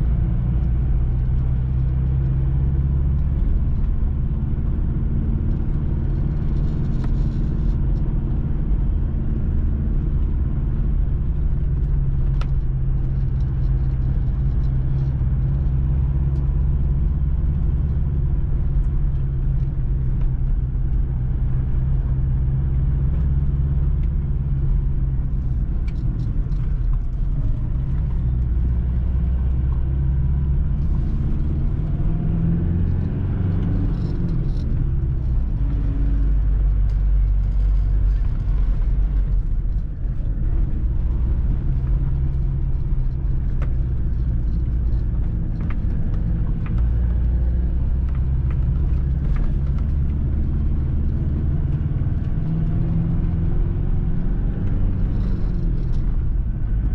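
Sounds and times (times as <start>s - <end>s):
car engine and tyre rumble: 0.0s - 56.9s.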